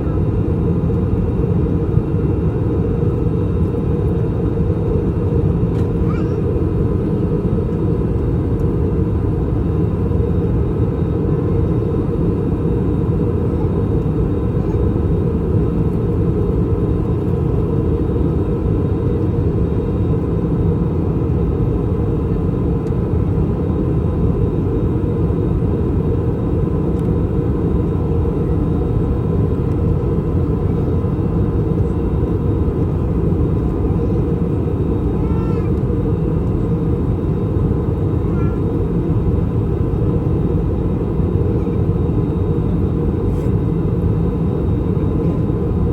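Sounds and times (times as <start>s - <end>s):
airplane cabin roar: 0.0s - 45.9s.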